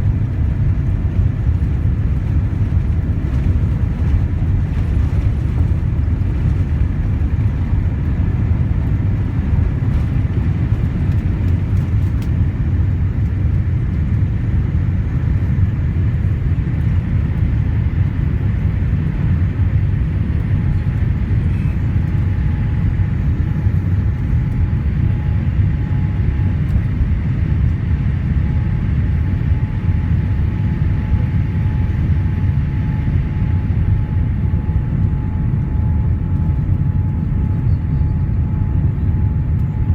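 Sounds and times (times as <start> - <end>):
low rumble of jet engines: 0.0 - 39.9.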